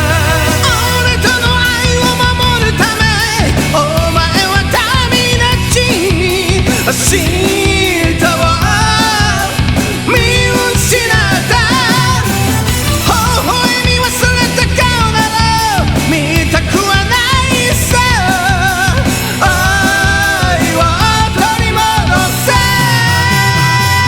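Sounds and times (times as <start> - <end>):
bass: 0.0 - 24.0
drums: 0.0 - 24.0
keyboard rock music: 0.0 - 24.0
vibrato lead melody: 0.0 - 24.0.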